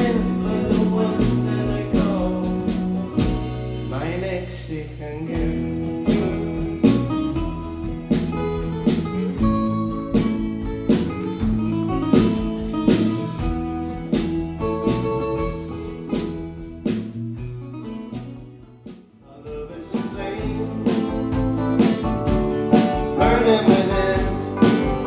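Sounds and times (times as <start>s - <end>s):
steady drum beat: 0.0s - 4.1s, 5.3s - 25.0s
live band playing: 0.0s - 4.3s, 5.3s - 25.0s
guitar: 0.0s - 25.0s.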